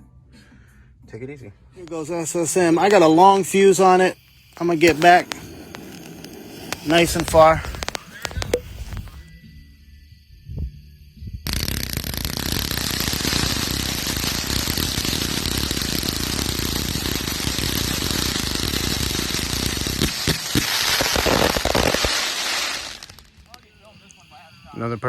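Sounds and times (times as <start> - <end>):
firework crackling: 1.9 - 9.2, 11.5 - 24.8
heavy firework pops: 1.9 - 9.2, 11.5 - 24.2.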